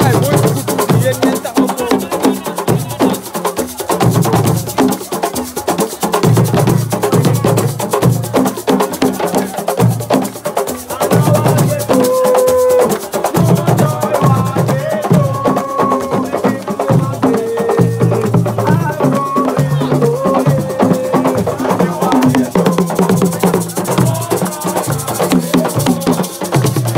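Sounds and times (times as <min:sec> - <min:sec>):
hand drums playing fast rhythm: 0:00.0 - 0:26.9.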